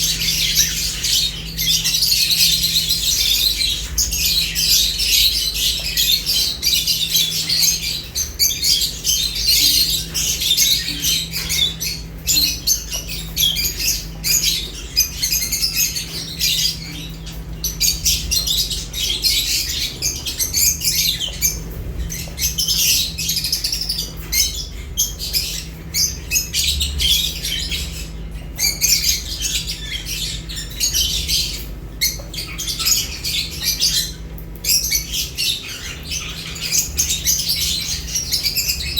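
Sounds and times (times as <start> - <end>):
lovebirds chirping and squawking: 0.0 - 38.9.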